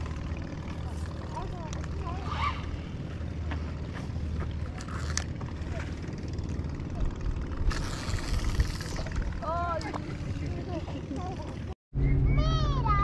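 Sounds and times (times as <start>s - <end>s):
low steady engine hum: 0.0s - 13.0s.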